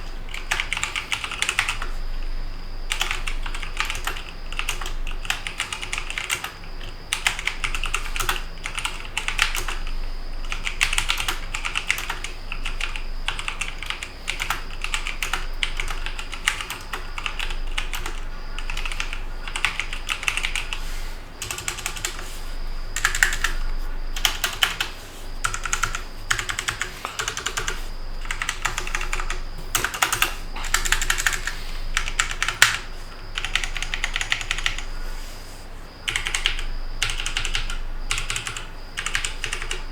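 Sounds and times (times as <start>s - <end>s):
mechanical keyboard typing: 0.3s - 1.9s, 2.9s - 9.9s, 10.5s - 20.7s, 21.4s - 22.2s, 23.0s - 23.6s, 24.2s - 32.8s, 33.4s - 34.8s, 36.1s - 39.8s.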